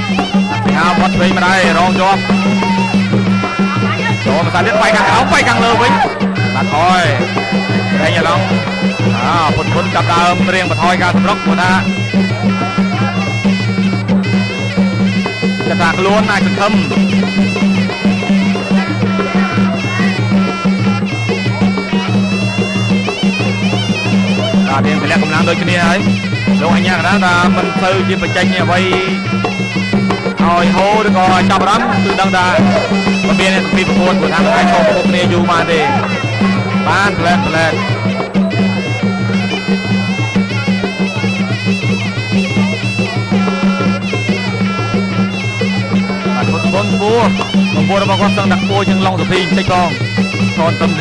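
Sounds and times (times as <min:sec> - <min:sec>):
reedy oboe melody: 0:00.0 - 0:51.0
steady drum beat: 0:00.0 - 0:51.0.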